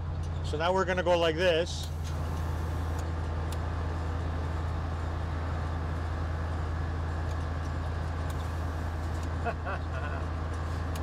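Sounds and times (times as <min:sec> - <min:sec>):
engine and road drone: 0:00.0 - 0:11.0.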